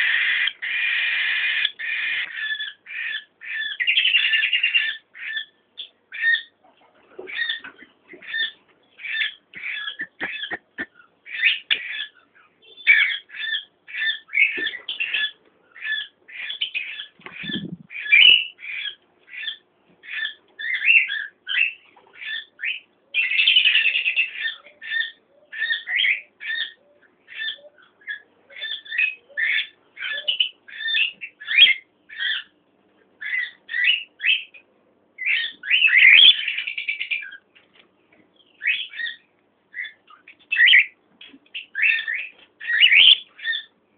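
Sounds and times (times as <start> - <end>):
cockatiels calling: 0.0 - 32.6, 33.2 - 34.6, 35.2 - 37.5, 38.4 - 43.8.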